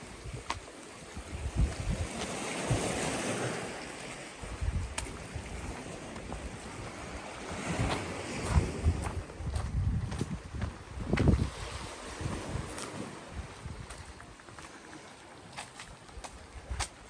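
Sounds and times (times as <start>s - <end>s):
wind buffeting microphone: 0.0s - 14.7s, 16.0s - 17.0s
small waves washing ashore: 0.0s - 17.0s.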